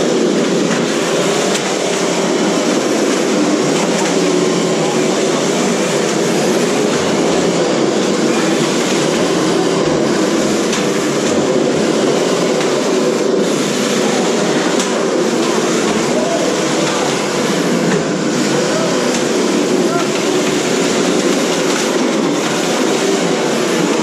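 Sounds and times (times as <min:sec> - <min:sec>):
radio-controlled cars whirring: 0:00.0 - 0:24.0.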